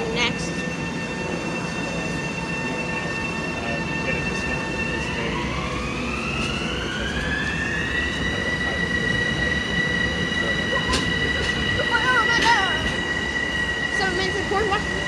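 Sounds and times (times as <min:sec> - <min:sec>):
electric train motors whining: 0:00.0 - 0:15.0.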